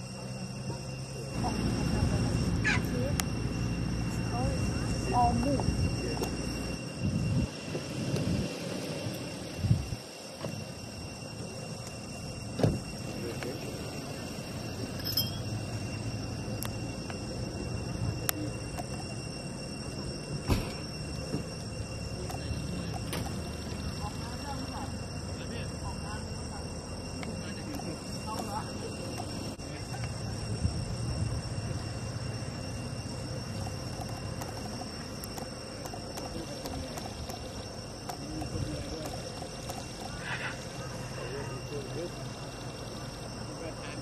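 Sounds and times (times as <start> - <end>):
high-pitched insect trilling: 0.0 - 44.0.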